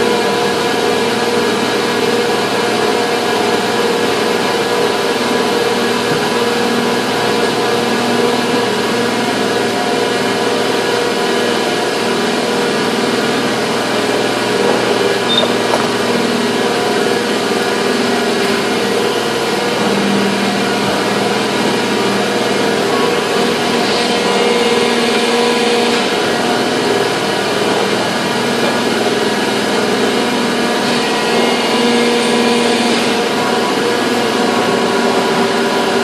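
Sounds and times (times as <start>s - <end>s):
factory machinery droning: 0.0s - 36.0s.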